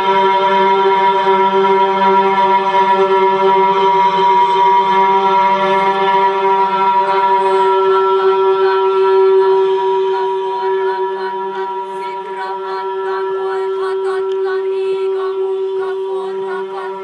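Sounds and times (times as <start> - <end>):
chant-like voices: 0.0 - 17.0
steady droning note: 0.0 - 17.0.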